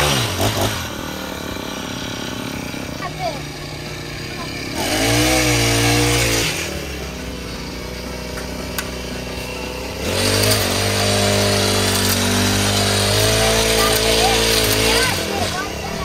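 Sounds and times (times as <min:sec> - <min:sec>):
blades cutting hedge: 0:00.0 - 0:16.0
hedge trimmer engine revving: 0:00.0 - 0:16.0.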